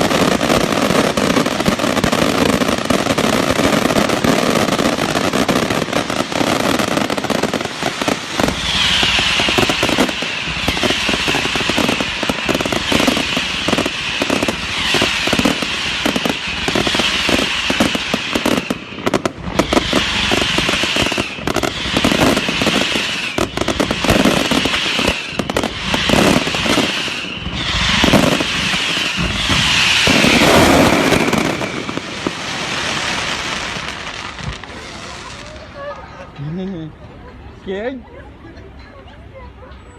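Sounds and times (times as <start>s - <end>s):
firecrackers crackling: 0.0s - 37.7s.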